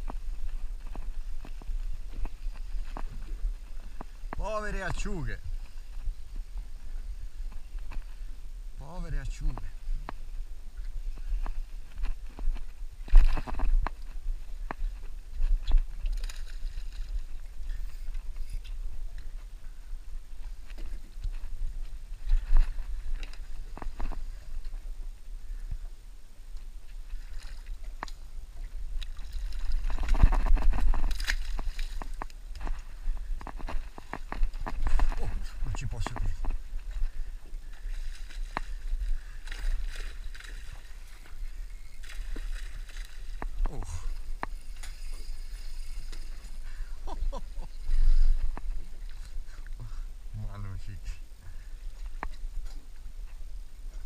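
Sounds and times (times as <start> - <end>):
water moving around boat: 0.0 - 50.2.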